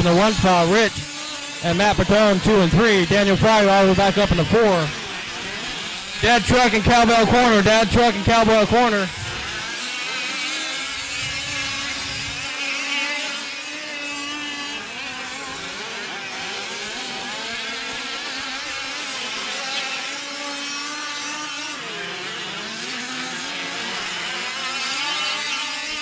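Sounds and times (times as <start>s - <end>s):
small two-stroke engines buzzing: 0.0s - 26.0s.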